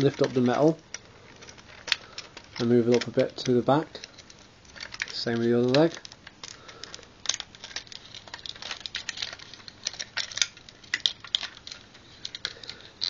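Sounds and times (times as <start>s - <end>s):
robot toy clicking and rattling: 0.0s - 13.0s.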